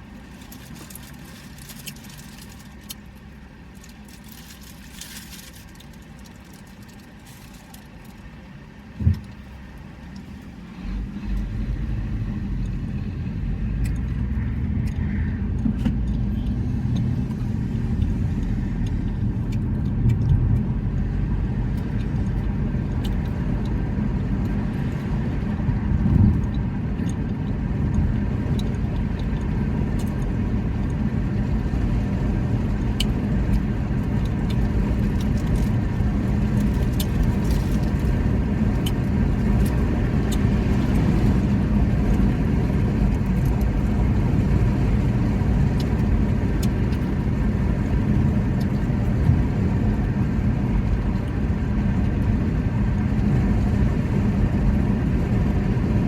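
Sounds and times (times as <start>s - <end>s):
low rumbling noise: 8.6s - 56.0s.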